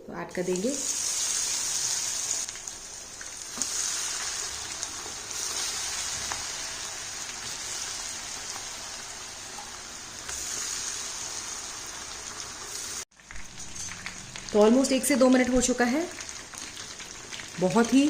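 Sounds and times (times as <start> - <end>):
food deep-frying in hot oil: 0.4 - 18.0.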